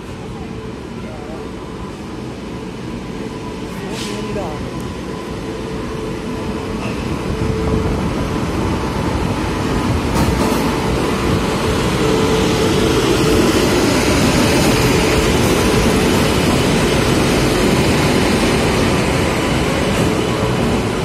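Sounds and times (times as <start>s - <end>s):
locomotive hum: 0.0s - 21.0s
train wheels rumbling on rails: 0.0s - 21.0s.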